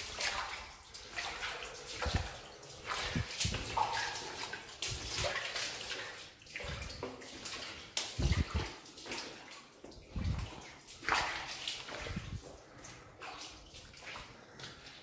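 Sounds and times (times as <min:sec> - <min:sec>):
footsteps wading through water: 0:00.0 - 0:15.0.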